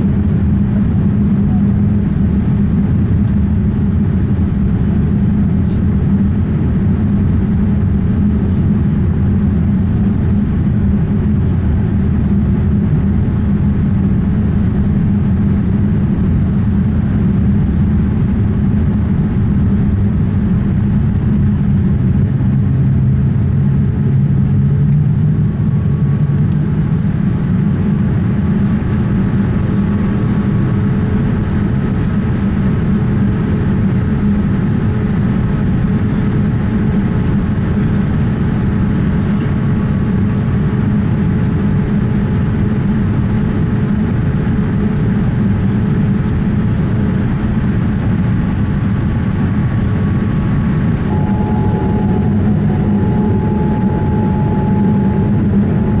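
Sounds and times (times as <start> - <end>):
airplane cabin rumble: 0.0 - 56.0
second lower hum: 0.0 - 56.0.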